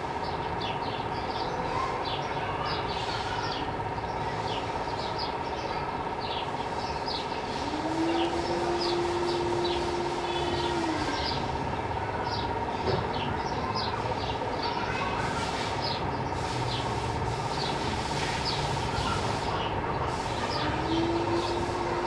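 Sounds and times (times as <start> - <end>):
sparrows chirping: 0.0 - 22.0
steady hum: 0.0 - 22.0.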